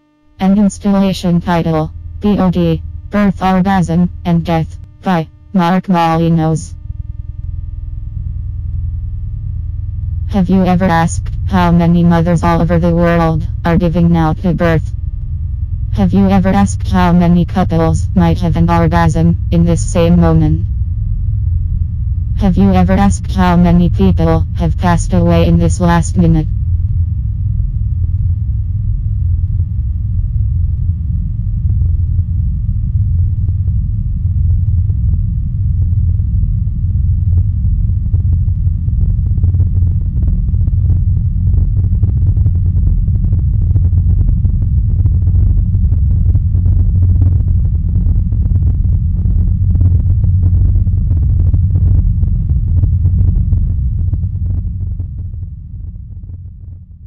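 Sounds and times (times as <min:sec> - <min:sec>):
deep low drone: 0:00.0 - 0:57.0.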